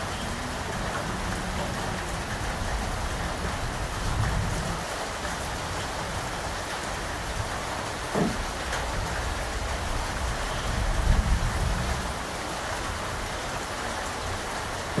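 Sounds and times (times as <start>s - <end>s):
rain falling on surfaces: 0.0s - 15.0s.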